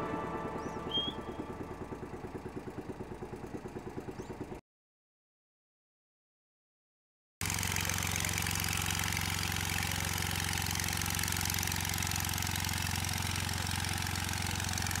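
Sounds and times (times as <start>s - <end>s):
engine idling: 0.0s - 4.6s, 7.4s - 15.0s.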